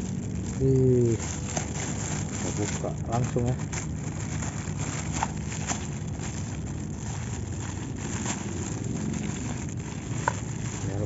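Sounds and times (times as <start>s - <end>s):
plastic packaging crinkling and tearing: 0.0s - 11.0s
steady low hum: 0.0s - 11.0s.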